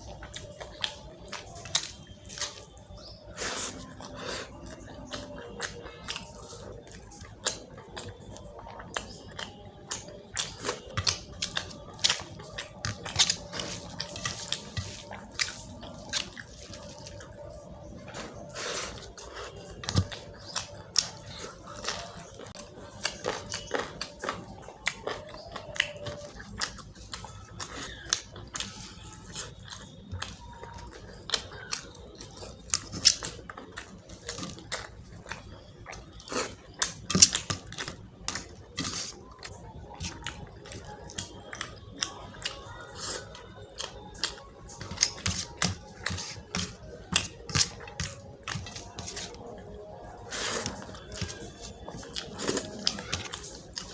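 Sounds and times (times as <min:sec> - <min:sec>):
chewing food: 0:00.0 - 0:53.9.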